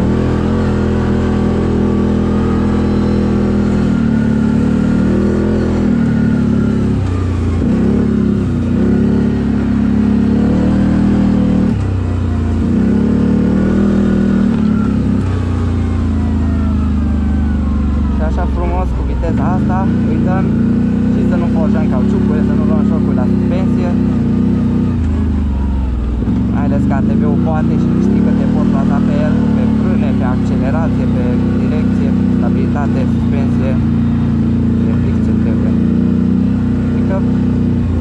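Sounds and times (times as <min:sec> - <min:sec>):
engine revving under load: 0:00.0 - 0:38.0.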